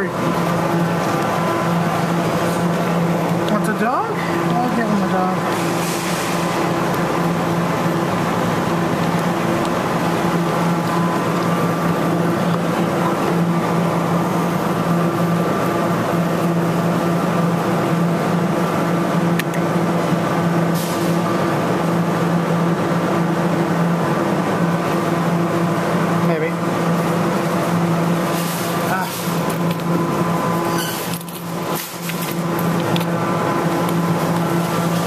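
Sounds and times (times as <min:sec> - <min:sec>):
claw machine humming and whirring: 0:00.0 - 0:35.0.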